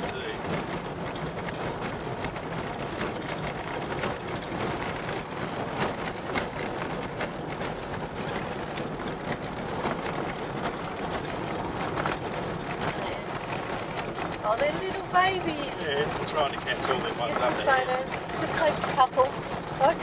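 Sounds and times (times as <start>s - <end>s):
rattles and knocks: 0.0s - 20.0s
vehicle driving on dirt track: 0.0s - 20.0s.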